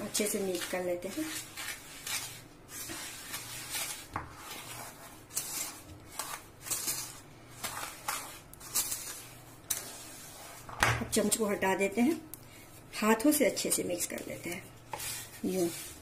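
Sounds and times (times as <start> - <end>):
wooden spoon scraping metal bowl: 0.0 - 11.4, 12.0 - 16.0.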